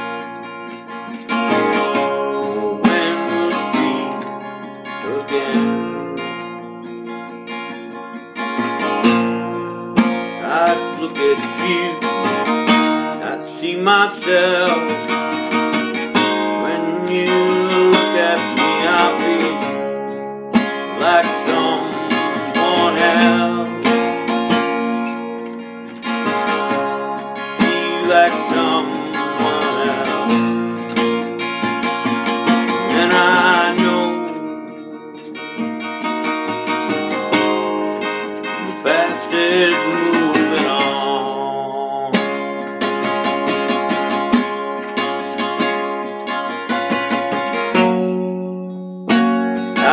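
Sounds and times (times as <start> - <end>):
acoustic guitar strummed: 0.0 - 49.9.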